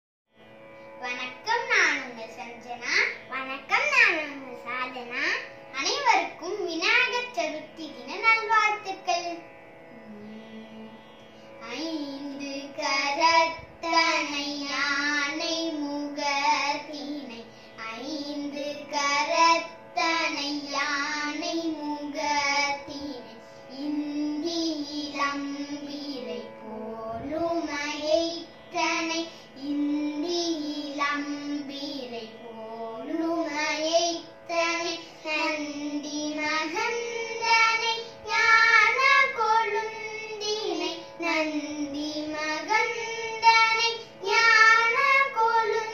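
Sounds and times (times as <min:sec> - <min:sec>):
steady drone: 0:00.4 - 0:45.9
girls singing devotional song: 0:05.1 - 0:45.9.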